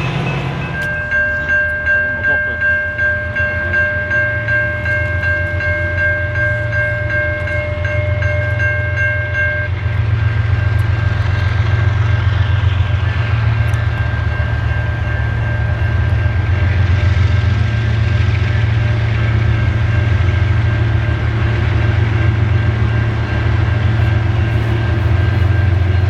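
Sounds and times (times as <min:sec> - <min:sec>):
passing train rumble: 0:00.0 - 0:26.0.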